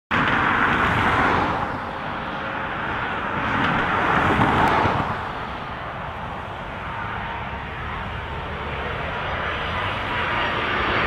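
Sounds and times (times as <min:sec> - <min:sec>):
jet airliner on approach: 0:00.1 - 0:11.0.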